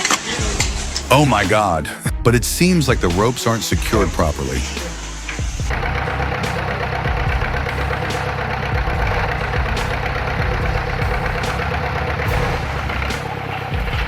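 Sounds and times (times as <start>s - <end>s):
heavy machine engine rumbling: 0.0s - 14.0s.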